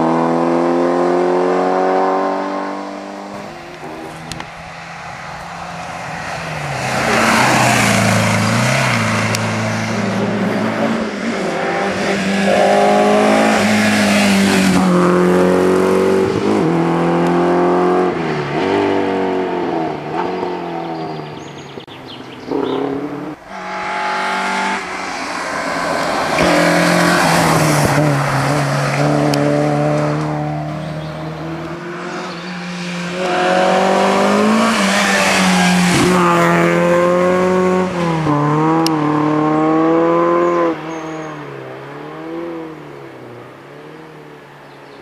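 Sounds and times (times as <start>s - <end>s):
rally car engine revving: 0.0s - 44.4s.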